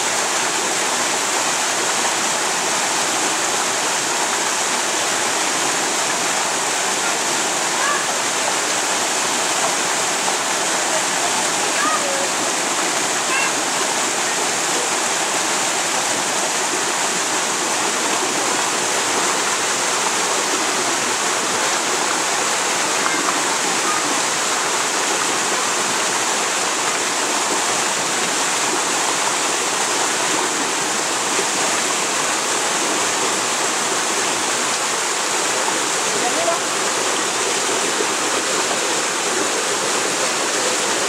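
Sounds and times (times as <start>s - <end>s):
stream rushing over rocks: 0.0s - 41.0s.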